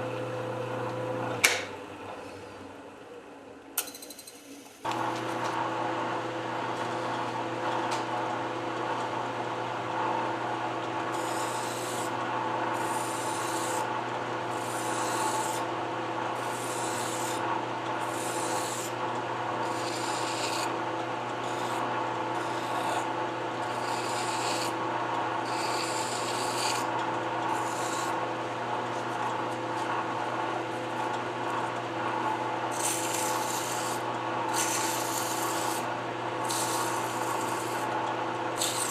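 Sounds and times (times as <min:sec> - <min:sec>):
lathe running: 0:04.9 - 0:38.9.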